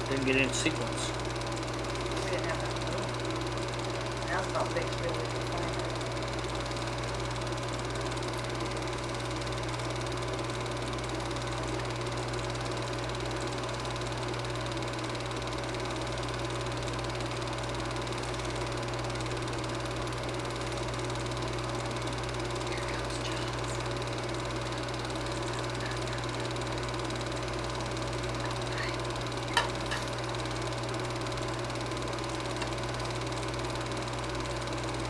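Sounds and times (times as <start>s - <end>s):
film projector whirring: 0.0s - 35.0s.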